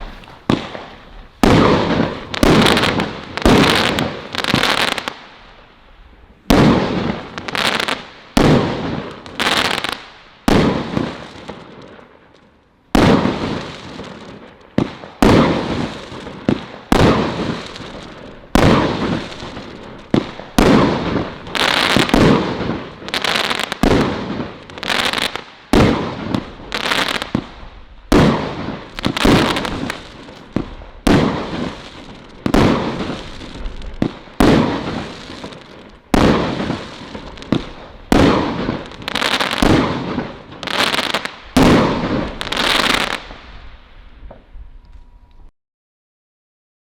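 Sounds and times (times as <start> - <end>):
firework bangs with crackle: 0.0 - 5.6, 6.4 - 44.5.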